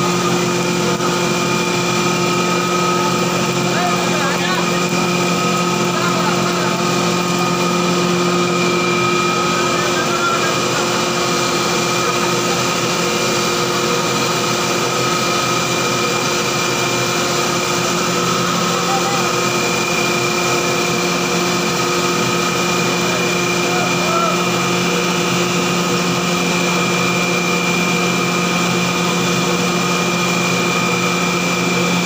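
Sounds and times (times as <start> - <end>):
grinding machine hum: 0.0 - 32.0
high-pitched machine whine: 0.0 - 32.0.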